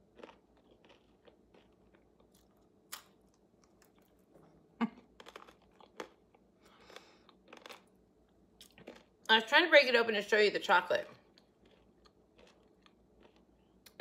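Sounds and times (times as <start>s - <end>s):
crunching and chewing snack: 0.0s - 9.3s, 11.1s - 14.0s.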